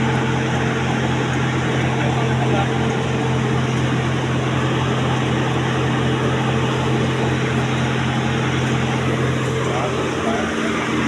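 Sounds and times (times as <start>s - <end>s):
suction machine engine hum: 0.0s - 11.0s.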